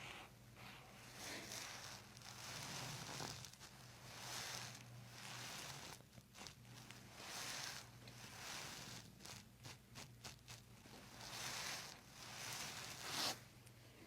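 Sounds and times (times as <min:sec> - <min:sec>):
hands rustling on skin and clothing: 0:00.6 - 0:13.4.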